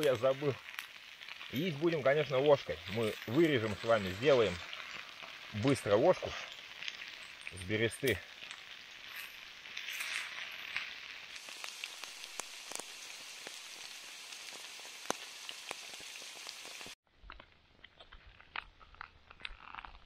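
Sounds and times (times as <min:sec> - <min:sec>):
potatoes sizzling in a pan: 0:00.0 - 0:17.0.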